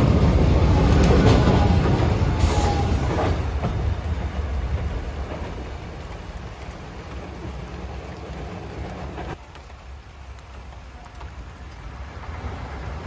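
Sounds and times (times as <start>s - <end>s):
rain hissing: 0.0s - 13.0s
train rumbling: 0.0s - 13.0s.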